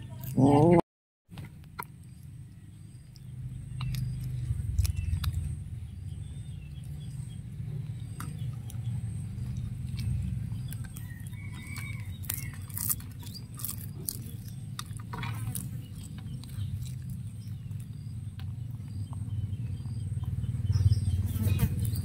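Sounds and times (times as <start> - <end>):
cat chewing and crunching: 1.4 - 22.0
low steady rumble: 1.4 - 22.0
bird chirping: 1.8 - 22.0.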